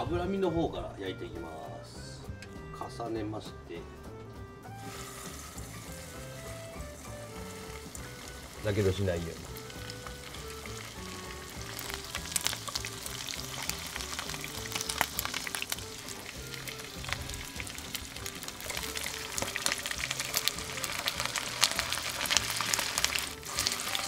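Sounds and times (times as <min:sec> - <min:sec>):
background music: 0:00.0 - 0:24.0
meat sizzling in a frying pan: 0:04.7 - 0:24.0.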